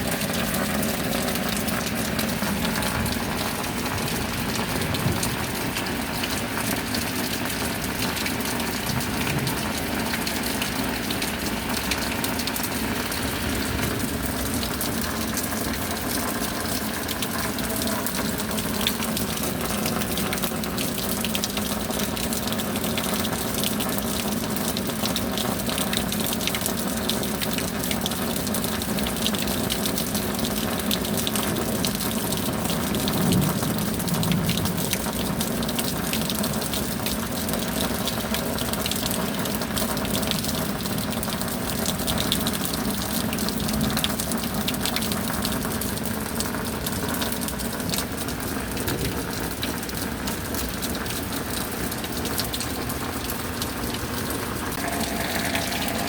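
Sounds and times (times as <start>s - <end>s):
running water rushing: 0.0s - 36.1s, 45.6s - 56.0s
patter of raindrops: 0.0s - 56.0s
rain: 0.0s - 56.0s.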